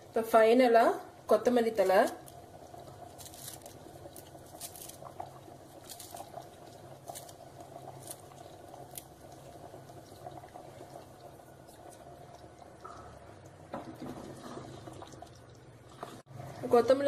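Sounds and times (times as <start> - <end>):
gravy bubbling in a pot: 0.0 - 17.0.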